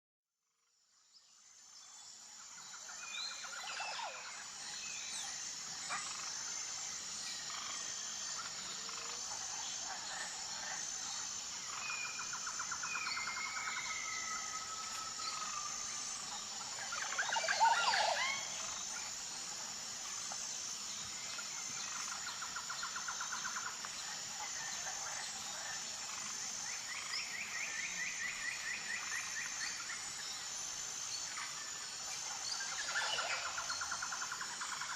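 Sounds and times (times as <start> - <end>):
insect chorus: 0.5 - 34.9.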